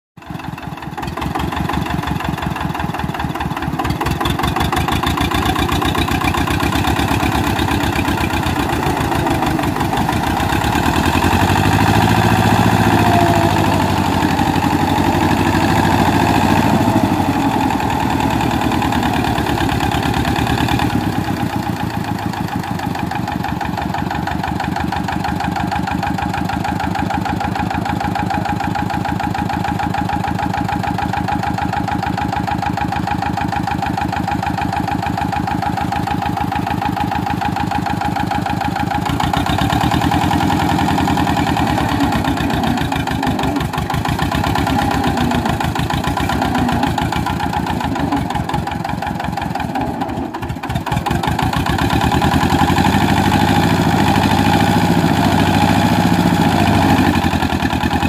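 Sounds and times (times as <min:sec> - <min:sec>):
tractor diesel engines under load: 0:00.1 - 0:58.0
wheel spinning in mud: 0:00.3 - 0:58.0.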